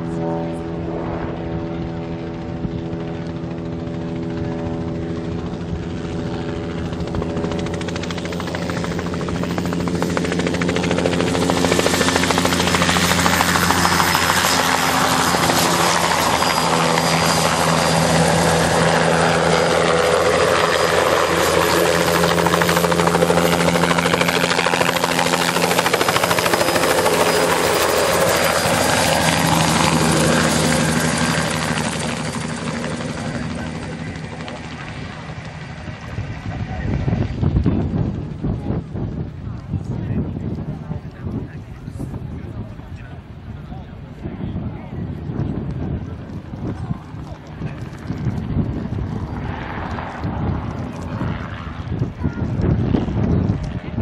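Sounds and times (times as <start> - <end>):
helicopter droning hum: 0.0 - 54.0
high turbine whine: 0.0 - 54.0.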